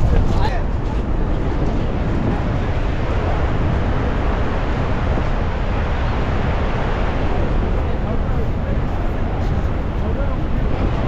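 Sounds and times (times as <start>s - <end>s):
waterfall roaring: 0.0s - 11.0s
wind rumbling on microphone: 0.0s - 11.0s.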